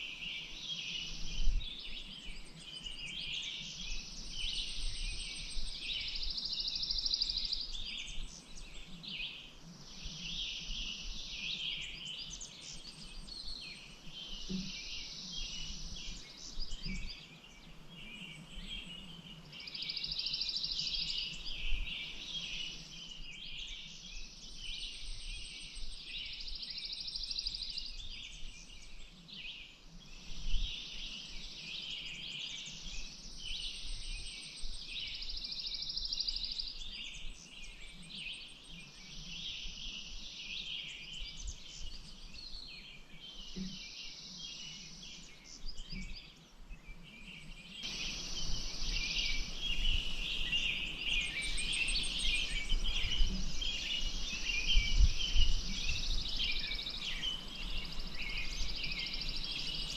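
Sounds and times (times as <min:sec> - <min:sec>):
birds chirping and singing: 0:00.2 - 0:59.9.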